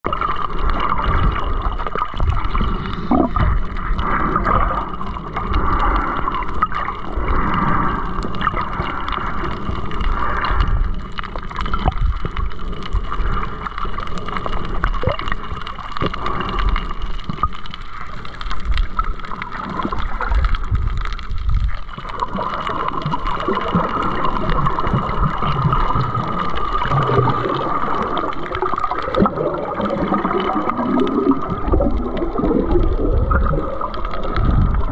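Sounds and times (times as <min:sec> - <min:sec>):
low underwater rumble: 0:00.0 - 0:34.9
underwater gurgling water: 0:00.0 - 0:34.9.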